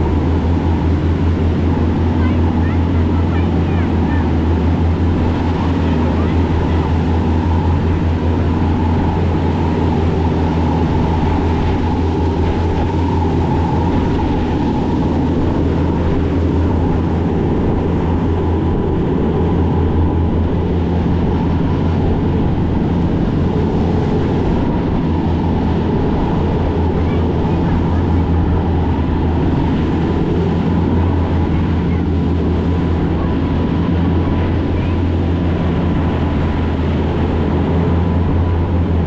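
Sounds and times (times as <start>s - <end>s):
ferry engines droning: 0.0s - 39.0s
water rushing and churning: 0.0s - 39.0s.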